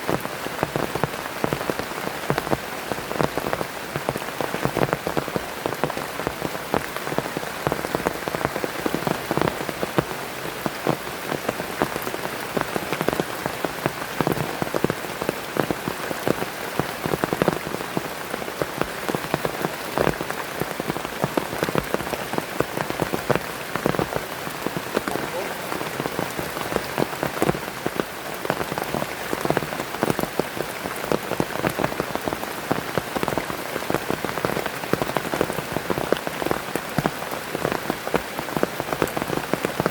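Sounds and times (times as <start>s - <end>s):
heavy rain falling: 0.0s - 39.9s
raindrops striking a surface: 0.0s - 39.9s.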